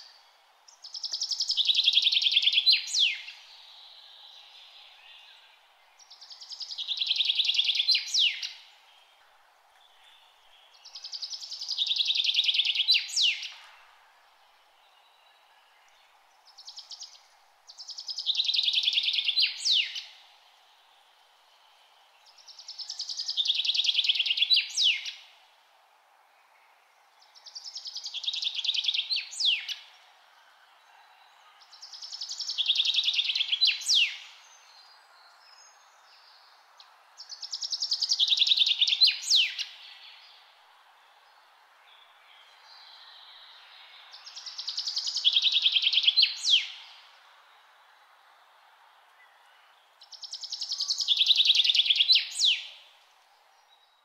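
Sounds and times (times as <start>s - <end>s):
songbird singing trills: 0.0s - 13.7s, 14.6s - 20.3s, 21.5s - 25.4s, 26.4s - 30.1s, 30.8s - 47.3s, 49.1s - 54.0s
faint background hiss: 0.0s - 54.0s.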